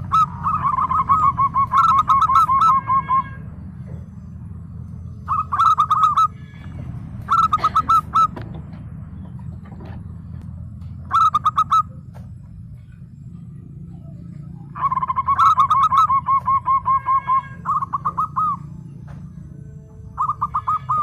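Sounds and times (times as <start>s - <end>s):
doves cooing: 0.0s - 21.0s
steady low hum: 0.0s - 21.0s.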